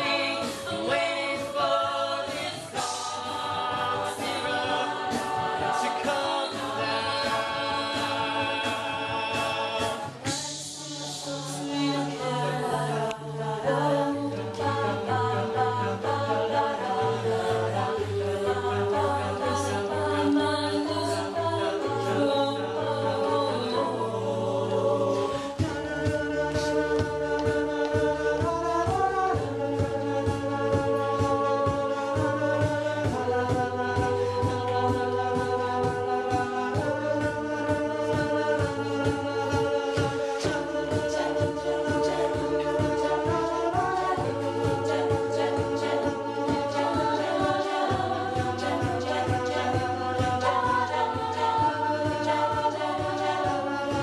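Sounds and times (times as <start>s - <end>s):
percussive beat: 0.0s - 54.0s
pulsing vocal bass line: 0.0s - 54.0s
vocal group singing a cappella: 0.0s - 54.0s.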